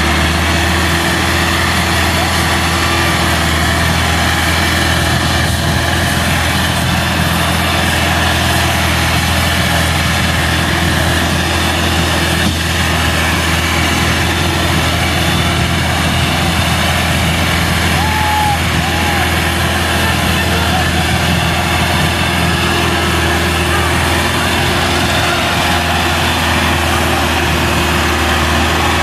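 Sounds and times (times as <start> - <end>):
tractor diesel engine under load: 0.0 - 29.0.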